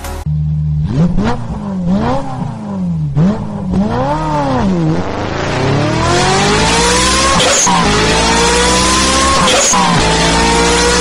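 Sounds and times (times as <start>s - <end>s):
engine revving: 0.3s - 11.0s.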